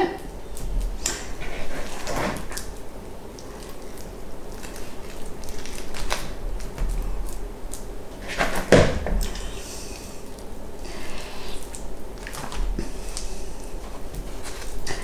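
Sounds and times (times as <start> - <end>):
hands squashing sausage meat: 0.2 - 15.0.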